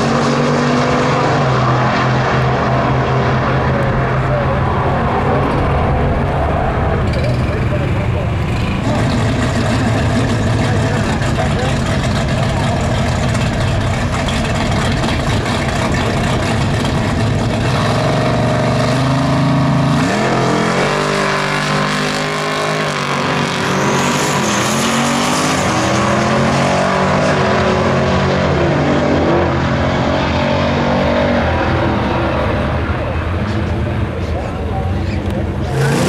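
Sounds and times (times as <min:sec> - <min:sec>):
cars accelerating hard: 0:00.0 - 0:36.0
race car engines revving: 0:00.0 - 0:36.0.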